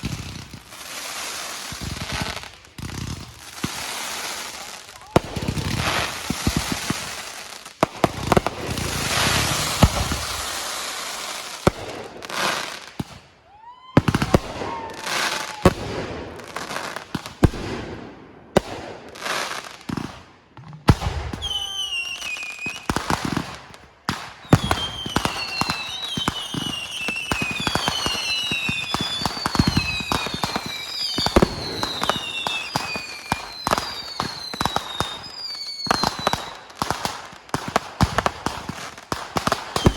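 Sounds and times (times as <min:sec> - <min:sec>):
fireworks bangs and crackling: 0:00.0 - 0:39.9
whistling fireworks: 0:00.0 - 0:39.9.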